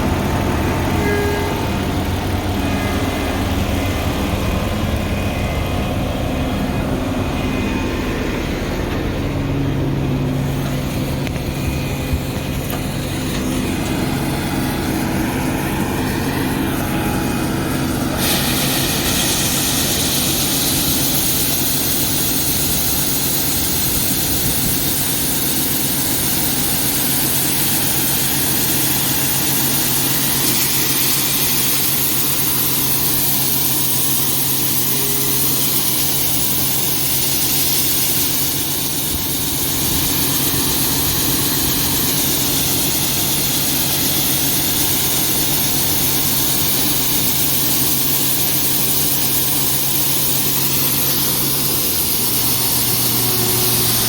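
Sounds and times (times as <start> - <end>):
engine low hum: 0.0 - 54.0
machine hiss: 0.0 - 54.0.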